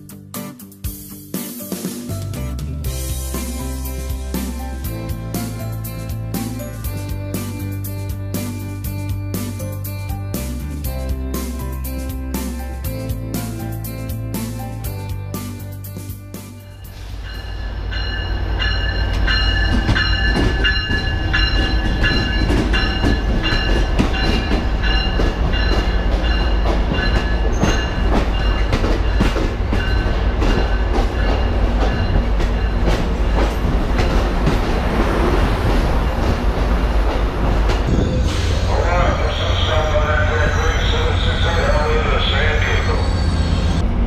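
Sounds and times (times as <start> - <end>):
train rumbling on rails: 2.9 - 44.0.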